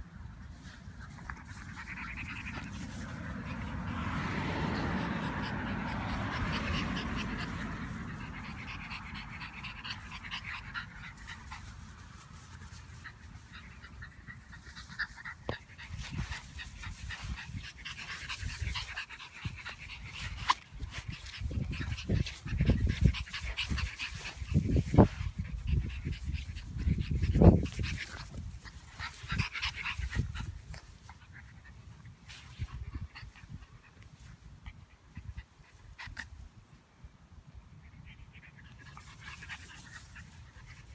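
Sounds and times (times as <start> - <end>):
puppies panting: 0.3 - 36.6, 37.7 - 40.9.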